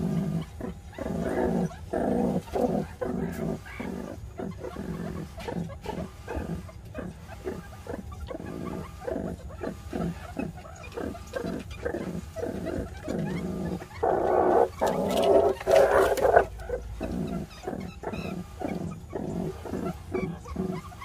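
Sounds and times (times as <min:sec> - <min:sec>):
meerkats grunting: 0:00.0 - 0:21.0.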